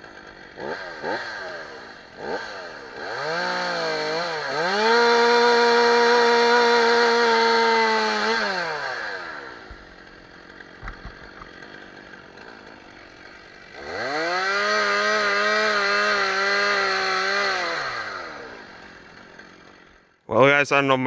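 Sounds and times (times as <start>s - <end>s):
chainsaw revving and idling: 0.0s - 20.2s.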